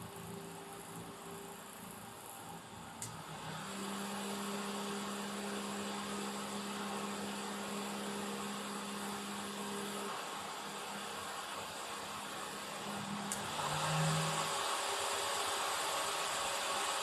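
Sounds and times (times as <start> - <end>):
table fan humming and whirring: 0.0 - 17.0.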